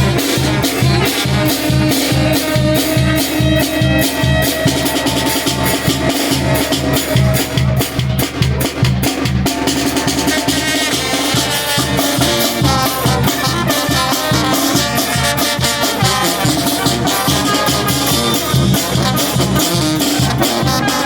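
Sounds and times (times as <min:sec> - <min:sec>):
driving drum beat: 0:00.0 - 0:21.0
wind band horns playing: 0:00.0 - 0:21.0.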